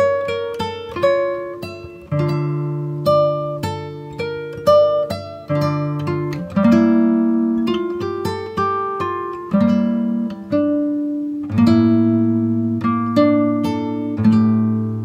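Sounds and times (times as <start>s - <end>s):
plucked acoustic guitar: 0.0s - 15.0s.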